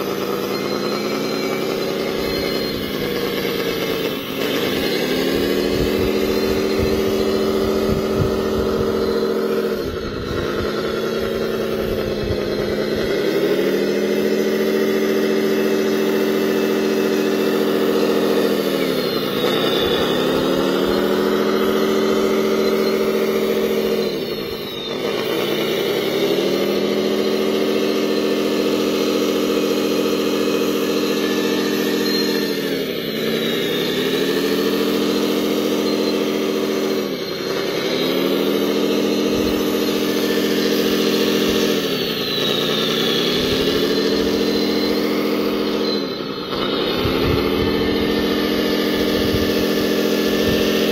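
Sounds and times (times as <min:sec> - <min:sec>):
model loader motor humming: 0:00.0 - 0:50.9.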